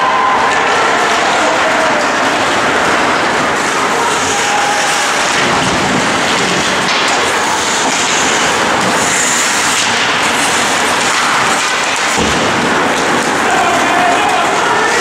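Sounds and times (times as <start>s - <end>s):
skates and sticks on ice: 0.1s - 15.0s.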